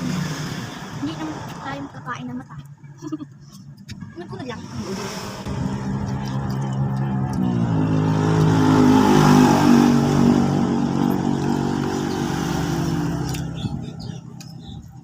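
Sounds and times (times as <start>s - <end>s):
vehicle engine passing and accelerating: 0.0s - 2.9s, 4.0s - 15.0s.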